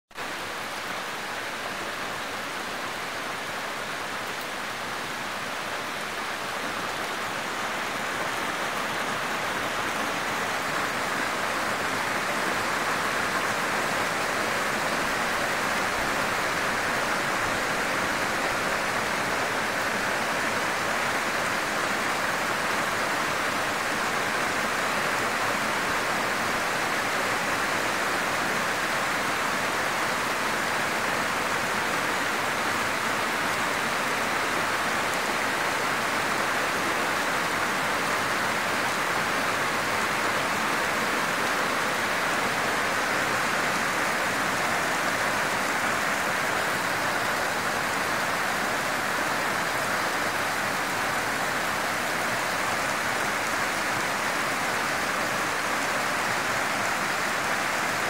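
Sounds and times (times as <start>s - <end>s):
heavy rain pouring: 0.1s - 58.0s.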